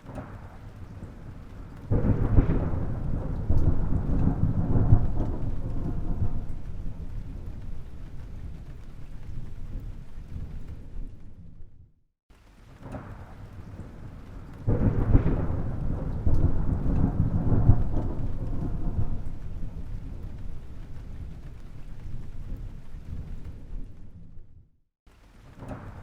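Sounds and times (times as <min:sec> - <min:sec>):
thunder clap and rumble: 0:00.0 - 0:12.0, 0:12.6 - 0:24.7, 0:25.4 - 0:26.0.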